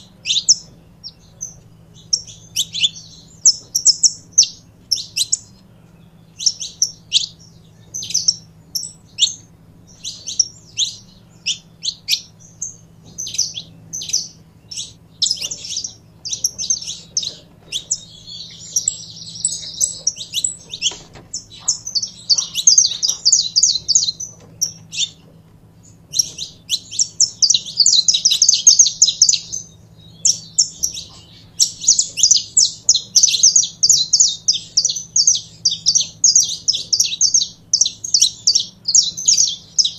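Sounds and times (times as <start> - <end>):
finch chattering runs: 0.0 - 39.9.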